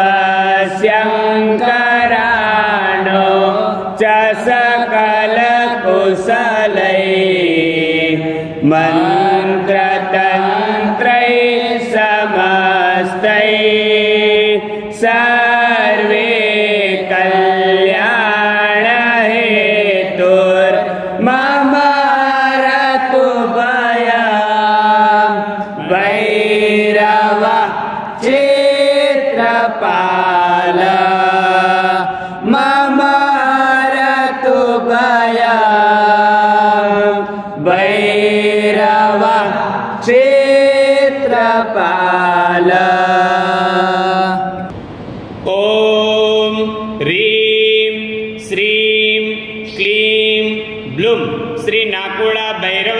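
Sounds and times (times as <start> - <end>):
person chanting a sung melody: 0.0 - 52.9.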